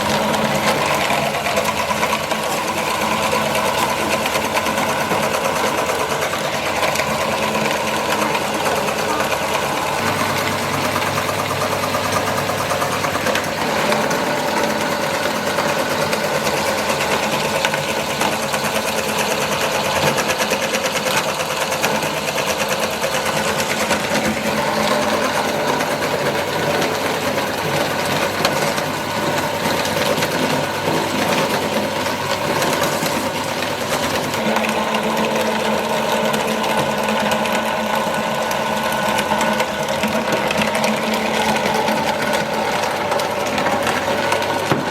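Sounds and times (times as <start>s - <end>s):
electric meat grinder whirring: 0.0s - 44.9s.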